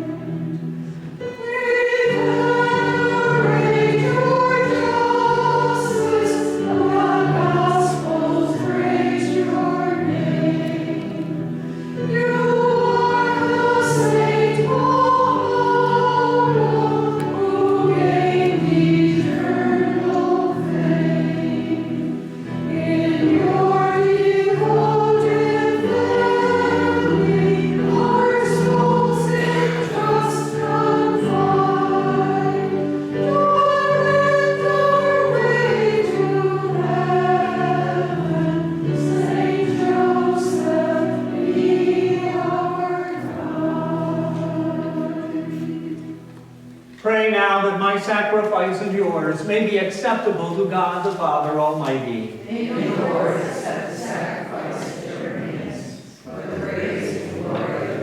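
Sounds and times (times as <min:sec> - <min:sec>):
choir singing a hymn: 0:00.0 - 0:46.9, 0:47.5 - 0:58.0.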